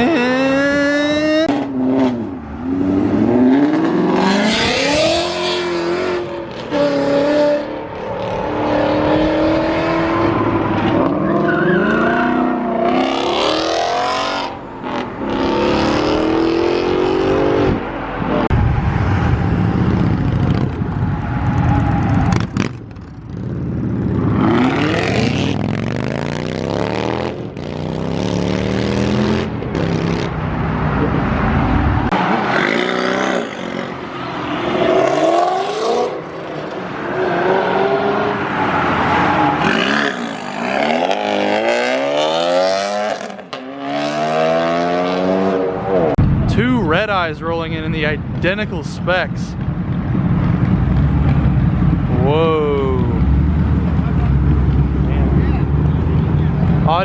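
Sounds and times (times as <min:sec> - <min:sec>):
car engines revving and accelerating: 0:00.0 - 0:57.0.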